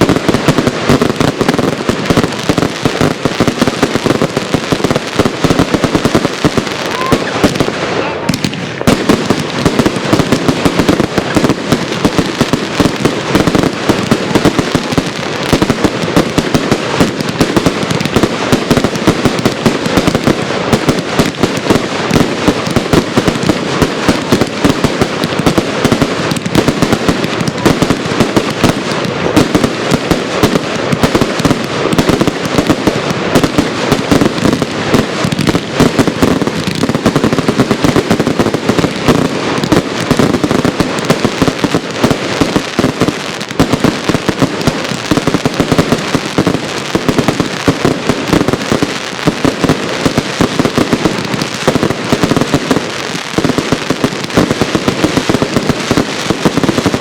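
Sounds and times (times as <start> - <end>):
fireworks firing in a barrage: 0.0 - 57.0.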